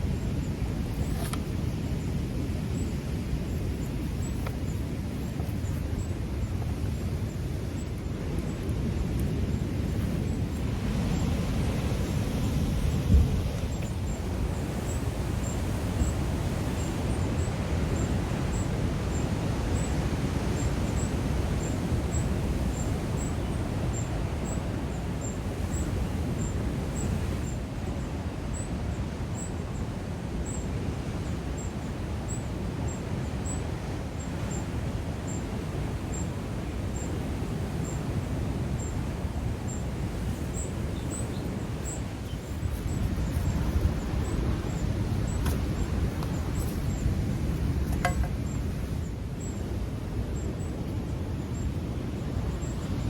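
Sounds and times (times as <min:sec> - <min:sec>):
wind and ocean swell rumble: 0:00.0 - 0:53.0.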